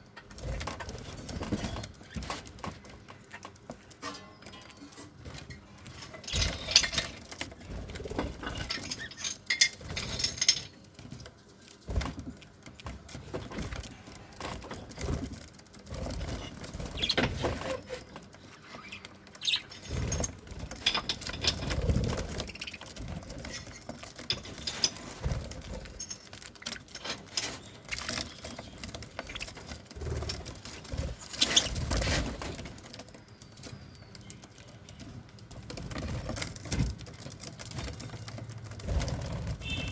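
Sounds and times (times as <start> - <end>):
birds rustling and scratching in cage: 0.0 - 39.9.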